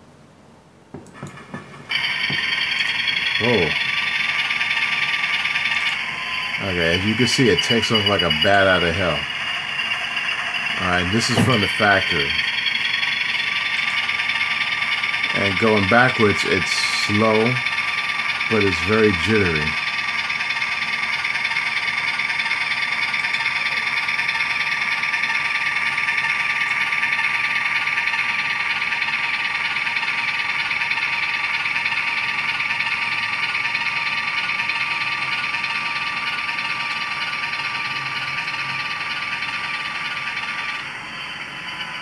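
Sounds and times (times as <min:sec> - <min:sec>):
steady high whine: 0:01.0 - 0:42.0
model locomotive engine sound: 0:01.1 - 0:42.0.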